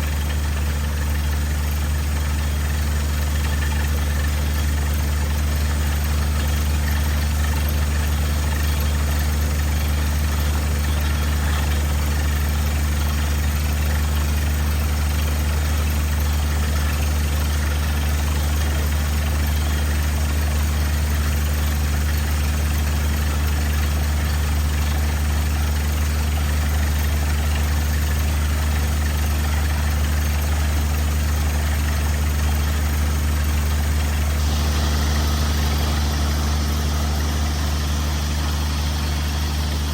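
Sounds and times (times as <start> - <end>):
heavy engine humming steadily: 0.0 - 39.9.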